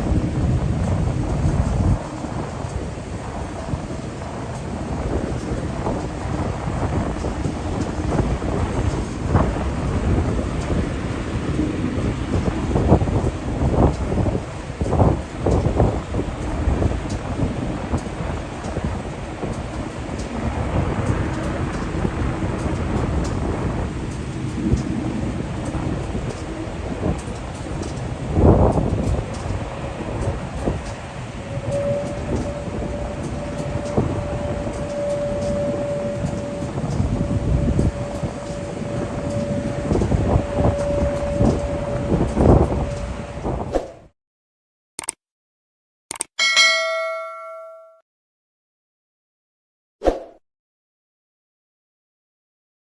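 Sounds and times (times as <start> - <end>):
jet engines rumbling: 0.0 - 43.7
wind buffeting microphone: 0.0 - 43.8.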